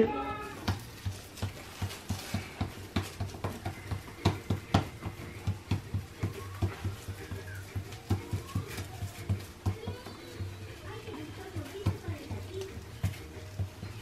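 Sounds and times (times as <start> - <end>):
hands patting dough: 0.5 - 14.0.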